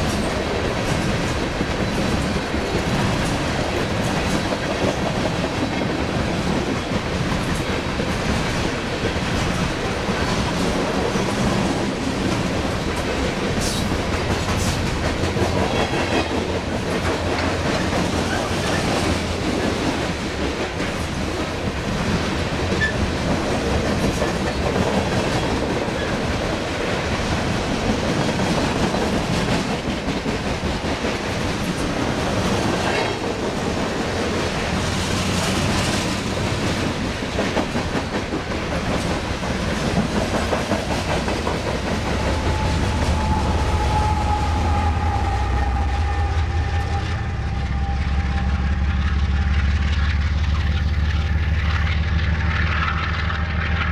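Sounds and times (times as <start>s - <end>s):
clickety-clack over rail joints: 0.0s - 45.0s, 45.7s - 53.9s
diesel locomotive engine drone: 0.0s - 53.9s
train wheels rumbling on rails: 0.0s - 53.9s.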